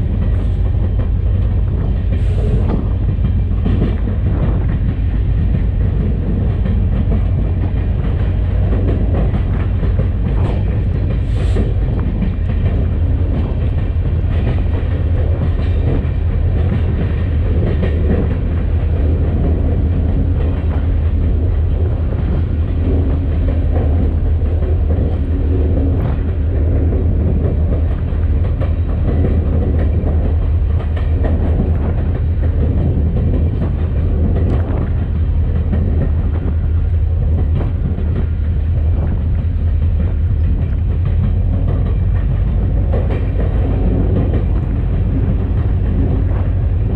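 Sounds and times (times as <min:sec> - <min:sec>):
diesel locomotive rumbling: 0:00.0 - 0:46.9.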